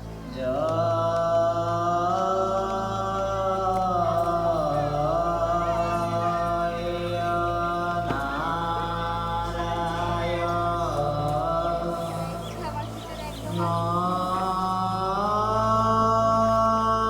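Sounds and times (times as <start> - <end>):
steady low drone: 0.0 - 17.0
person chanting long notes: 0.1 - 17.0.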